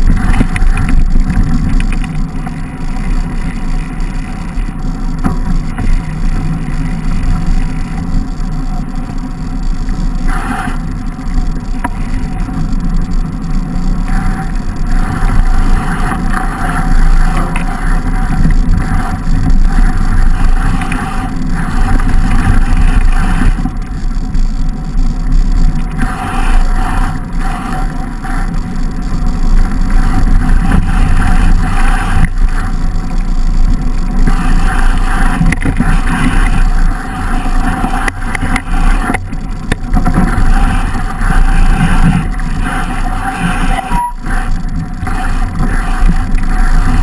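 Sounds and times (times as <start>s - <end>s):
bike tyres on snow: 0.0s - 47.0s
wind rushing on microphone: 0.0s - 47.0s.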